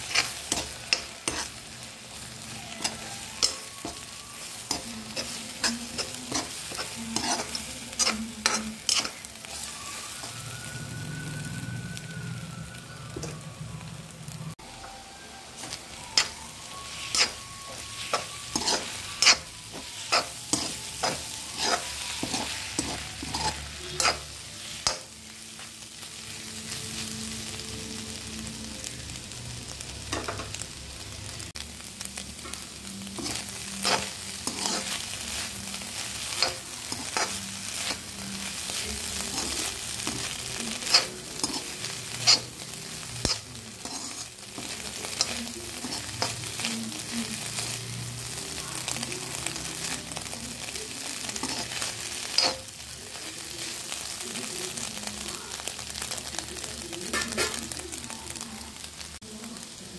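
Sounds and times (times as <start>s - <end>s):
egg and onions sizzling: 0.0s - 59.9s.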